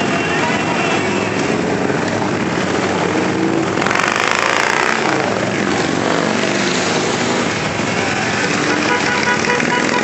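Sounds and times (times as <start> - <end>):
motorcycles riding past: 0.0 - 10.0.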